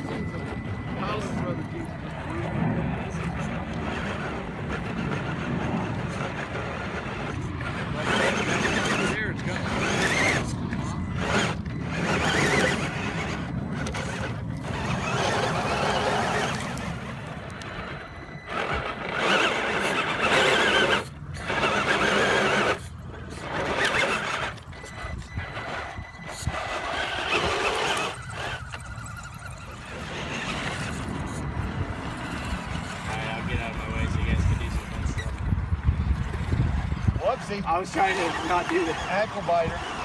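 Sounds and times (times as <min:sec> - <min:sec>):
toy car electric motor whining: 0:00.0 - 0:40.0.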